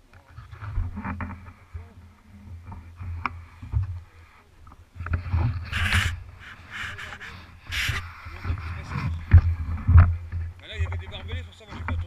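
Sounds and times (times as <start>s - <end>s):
fabric rustling on microphone: 0.2s - 12.0s
microphone handling noise: 0.2s - 12.0s.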